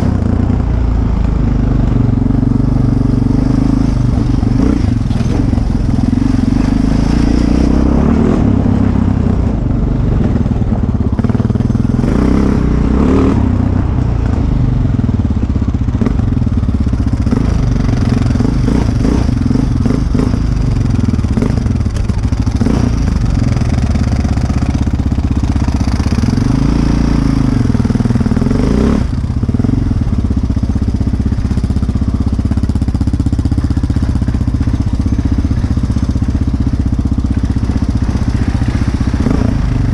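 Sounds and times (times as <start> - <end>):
quad engine revving: 0.0 - 15.1, 15.9 - 39.9.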